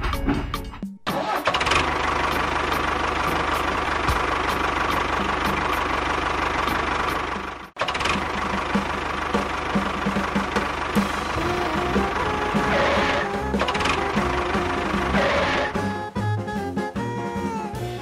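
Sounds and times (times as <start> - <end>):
tractor engine knocking: 1.2 - 15.9.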